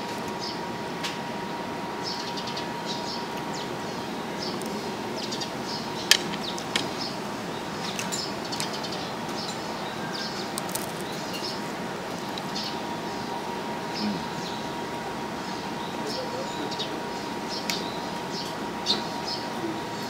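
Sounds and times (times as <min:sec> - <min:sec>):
small birds chirping: 0:00.0 - 0:00.8, 0:01.5 - 0:20.0
steady background hum: 0:00.0 - 0:20.0.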